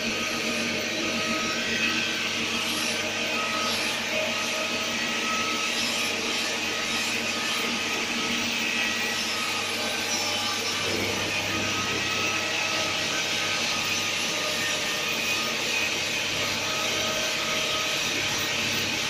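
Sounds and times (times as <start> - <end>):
machine whirring with low hum: 0.0 - 19.0.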